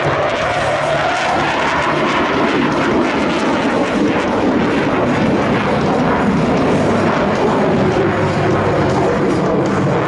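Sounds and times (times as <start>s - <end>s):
fighter jet engine roar: 0.0s - 10.0s.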